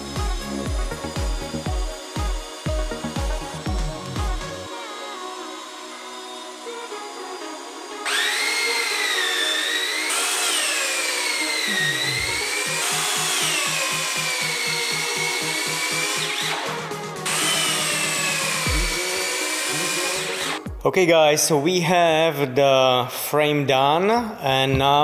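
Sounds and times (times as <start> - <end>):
electric drill boring into wood: 0.0 - 20.7.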